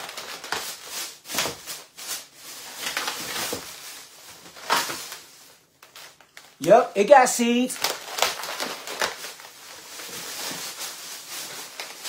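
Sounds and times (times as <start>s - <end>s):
plastic bags and foam trays rustling: 0.0s - 12.0s.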